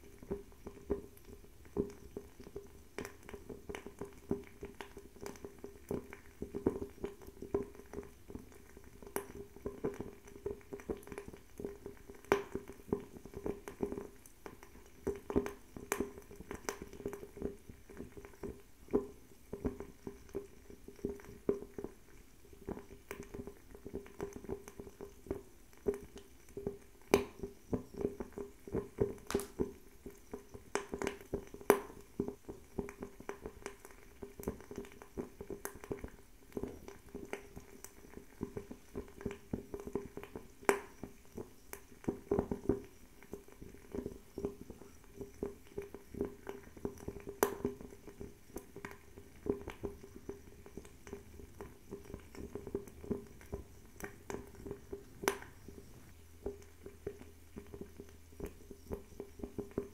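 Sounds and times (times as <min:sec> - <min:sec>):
fire crackles and pops: 0:00.0 - 0:59.9.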